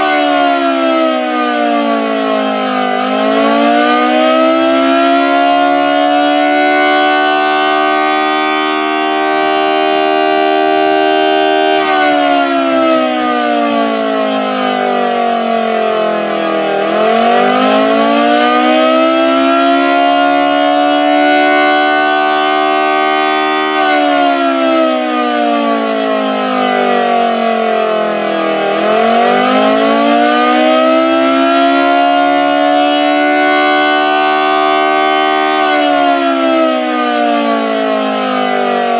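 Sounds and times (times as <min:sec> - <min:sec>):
two-tone siren wailing: 0:00.0 - 0:38.9.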